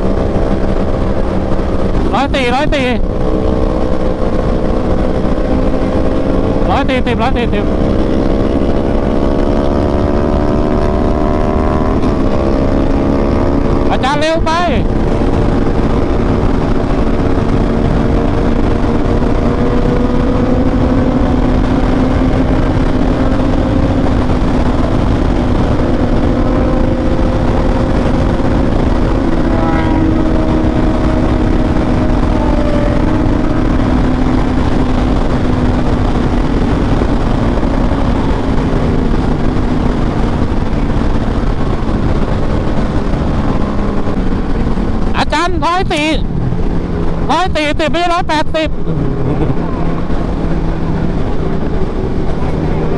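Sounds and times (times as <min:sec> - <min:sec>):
motorcycle engine at high speed: 0:00.0 - 0:52.9
wind rush on microphone: 0:00.0 - 0:52.9.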